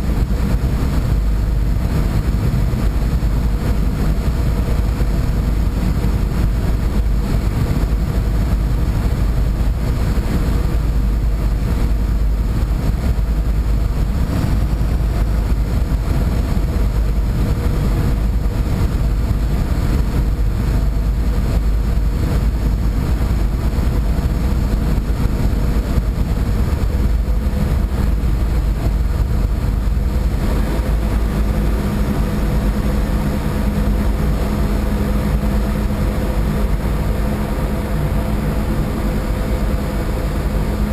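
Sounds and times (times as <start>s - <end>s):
boat engines droning: 0.0s - 40.9s.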